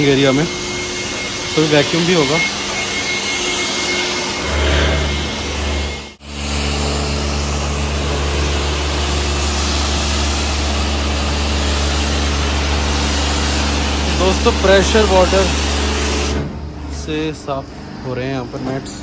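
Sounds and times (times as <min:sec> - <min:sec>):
water jet hissing: 0:00.0 - 0:16.5
pressure washer motor drone: 0:00.0 - 0:19.0.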